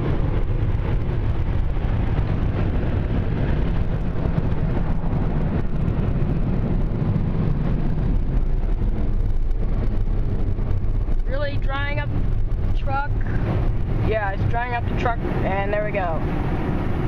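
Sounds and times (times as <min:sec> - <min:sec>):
car wash dryer blowing air: 0:00.0 - 0:17.0.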